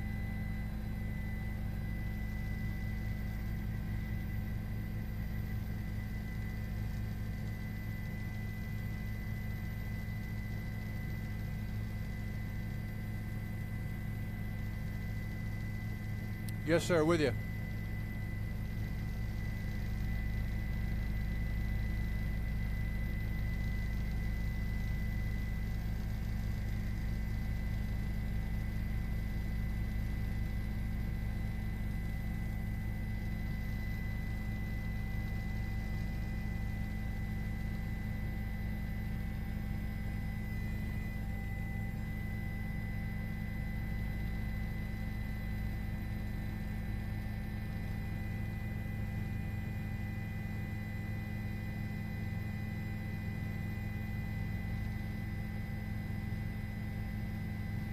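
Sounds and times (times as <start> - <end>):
constant humming tones: 0.0 - 57.9.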